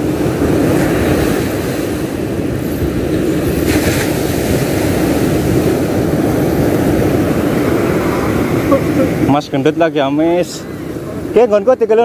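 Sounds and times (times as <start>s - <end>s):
ocean surf on beach: 0.0s - 12.0s
wind buffeting microphone: 0.0s - 12.0s.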